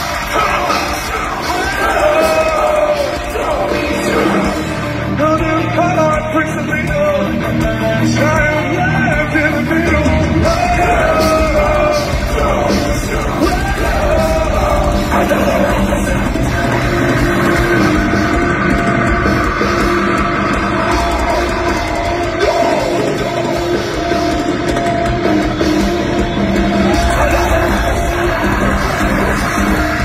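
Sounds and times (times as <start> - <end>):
heavy metal band playing live: 0.0 - 30.0.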